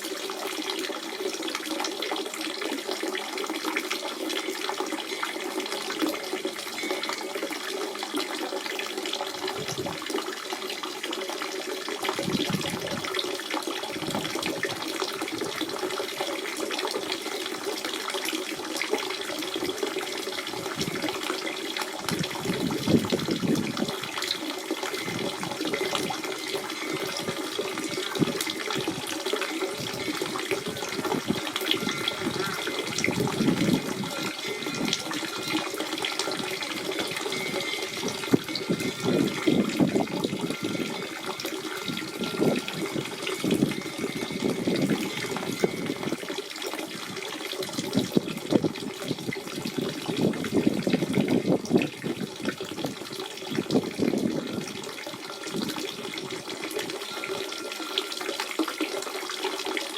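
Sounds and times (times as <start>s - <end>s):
spring water gurgling and splashing: 0.0s - 59.9s.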